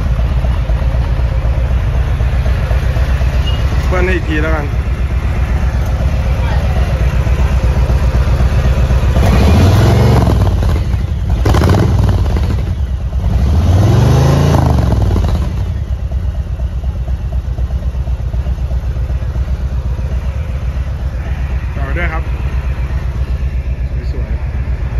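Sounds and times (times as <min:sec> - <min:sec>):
motorcycle engine revving and idling: 0:00.0 - 0:24.9.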